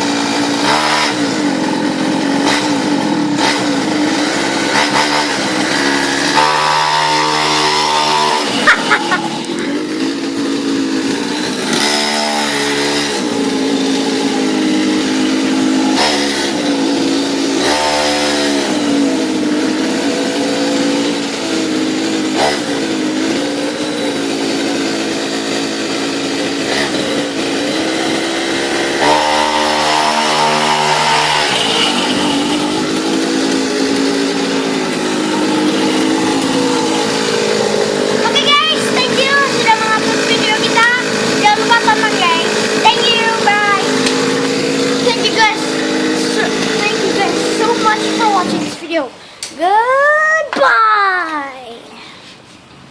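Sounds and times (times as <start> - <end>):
small motorcycle engine revving: 0.0 - 49.4.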